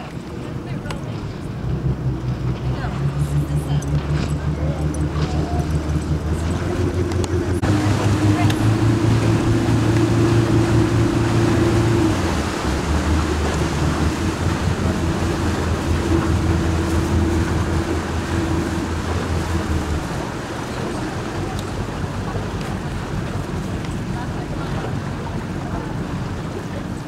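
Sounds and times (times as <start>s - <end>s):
boat engine running: 0.0s - 27.0s
water noise: 0.0s - 27.0s
wind: 0.0s - 27.0s.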